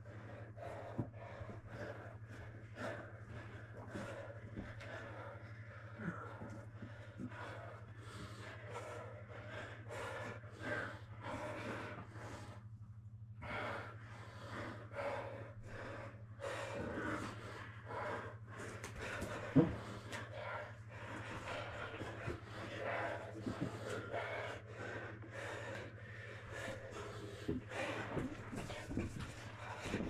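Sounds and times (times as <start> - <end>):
heavy breathing and gasping: 0.0 - 30.0
steady low hum: 0.0 - 30.0.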